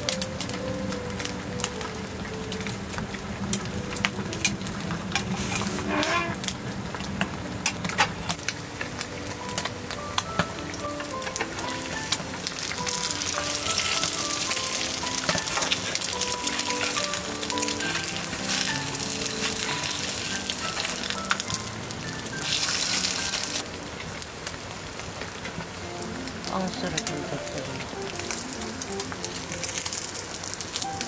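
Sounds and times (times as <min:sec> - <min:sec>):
food sizzling with sharp pops: 0:00.0 - 0:31.0
light melody: 0:00.0 - 0:31.0.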